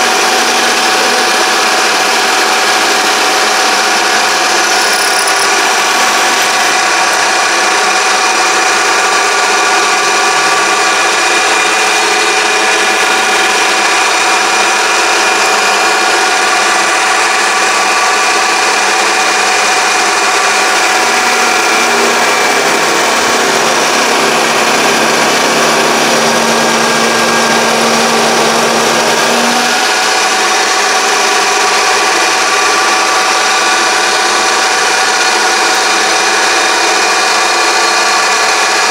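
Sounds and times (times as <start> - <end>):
lathe whining: 0.0 - 38.9.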